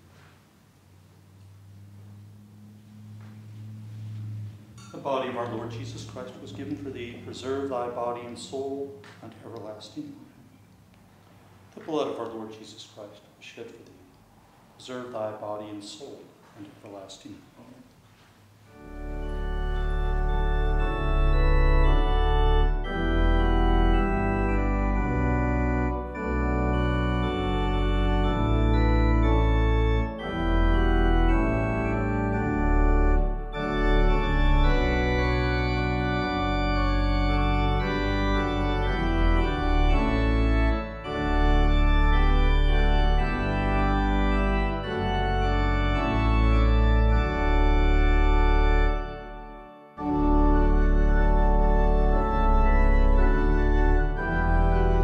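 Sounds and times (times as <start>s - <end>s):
organ playing held chords: 0.8s - 10.5s, 18.5s - 55.0s.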